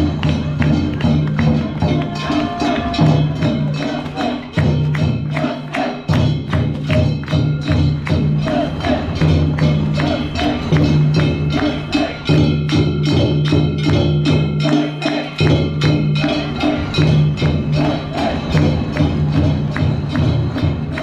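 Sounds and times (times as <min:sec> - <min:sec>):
fast percussion strikes: 0:00.0 - 0:21.0.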